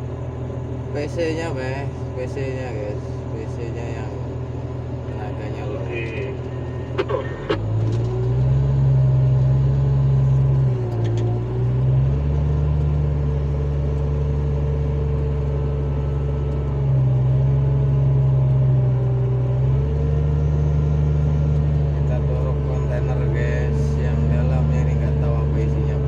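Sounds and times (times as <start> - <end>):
diesel engine rumbling under load: 0.0 - 26.0.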